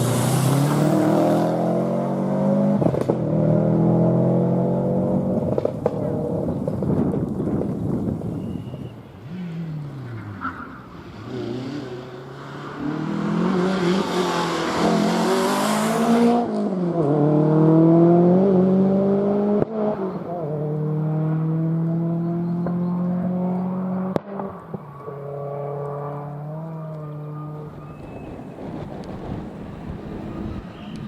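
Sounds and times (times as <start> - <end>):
rally car accelerating: 0.0 - 8.0, 9.2 - 28.0.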